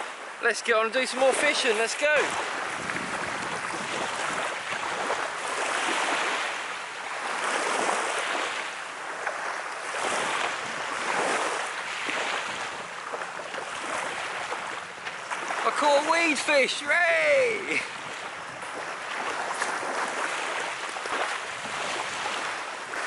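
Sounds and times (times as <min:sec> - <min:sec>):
small waves washing on shore: 0:00.0 - 0:23.0.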